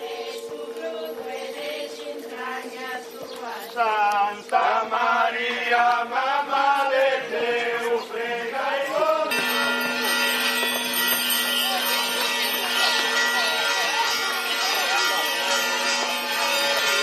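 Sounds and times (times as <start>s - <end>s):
procession singing a chant: 0.0s - 17.0s.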